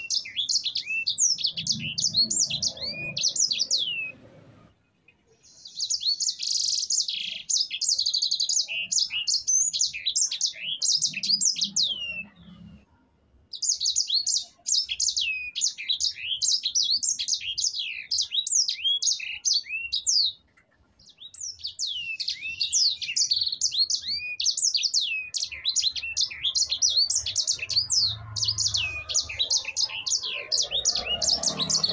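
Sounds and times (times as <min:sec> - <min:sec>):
canary singing: 0:00.0 - 0:04.7, 0:05.4 - 0:12.9, 0:13.5 - 0:31.9.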